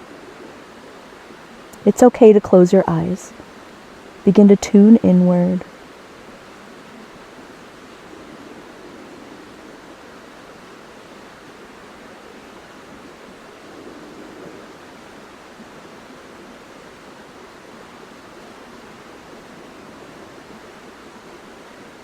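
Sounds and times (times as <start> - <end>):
river flowing: 0.0 - 4.3, 5.3 - 22.0.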